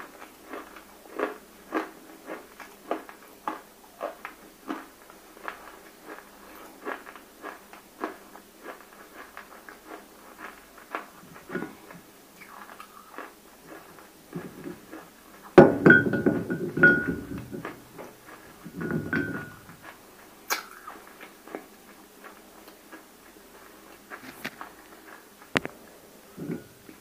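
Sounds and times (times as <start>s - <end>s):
crunchy chewing: 0.0s - 15.6s, 17.4s - 27.0s.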